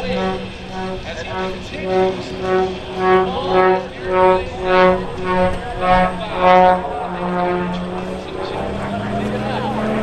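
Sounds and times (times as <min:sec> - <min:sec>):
pulsing music note: 0:00.0 - 0:09.7
steady low tone: 0:00.0 - 0:10.0.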